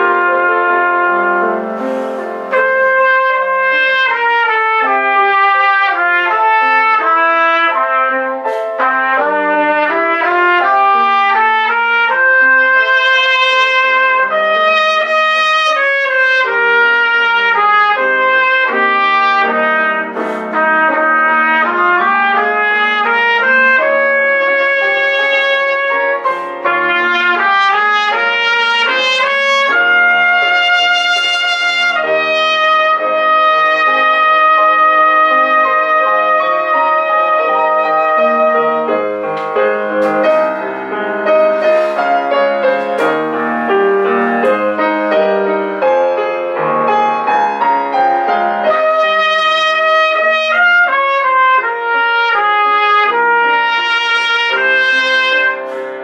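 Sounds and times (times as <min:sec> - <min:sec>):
trumpet melody: 0:00.0 - 0:56.0.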